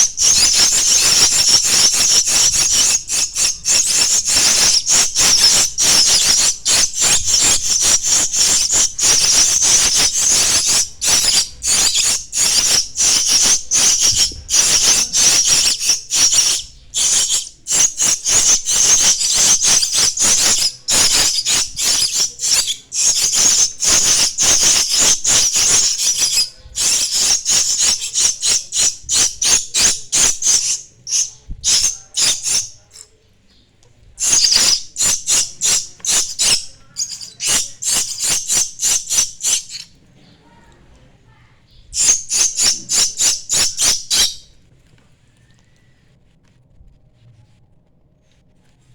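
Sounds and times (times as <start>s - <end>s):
starling chicks calling: 0.0s - 33.0s, 34.2s - 39.9s, 41.9s - 44.5s.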